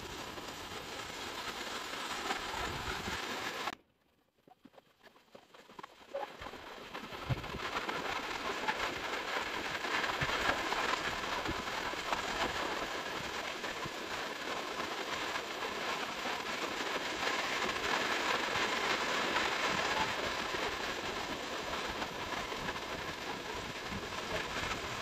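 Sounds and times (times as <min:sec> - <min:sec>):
surf washing onto beach: 0:00.0 - 0:03.7, 0:05.3 - 0:25.0.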